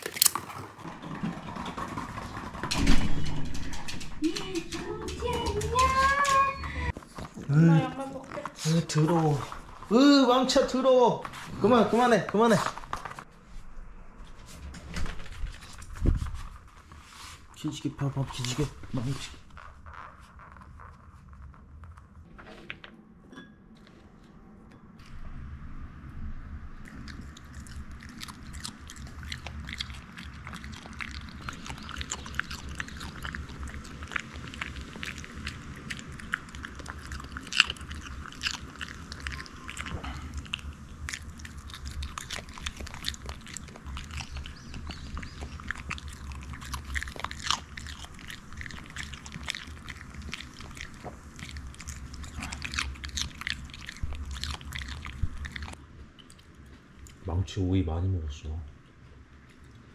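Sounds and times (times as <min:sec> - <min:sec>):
puppy crunching cucumber: 0:00.0 - 0:02.9, 0:03.5 - 0:13.3, 0:15.2 - 0:22.2, 0:26.8 - 0:57.7.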